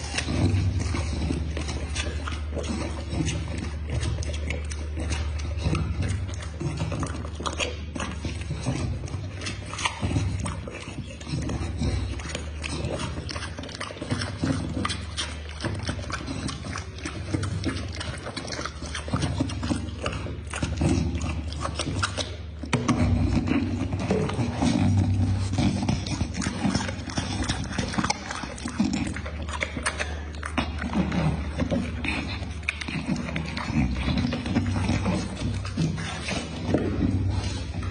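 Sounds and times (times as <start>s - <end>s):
dog chewing noisily: 0.0s - 37.9s
steady low hum: 0.0s - 37.9s.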